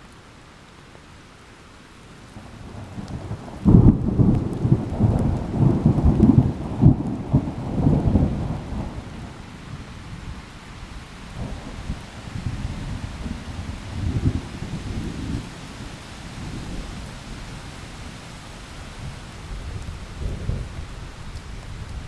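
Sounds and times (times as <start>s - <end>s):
steady rain: 0.0s - 22.0s
thunder rumbling: 2.4s - 17.9s, 18.8s - 22.0s.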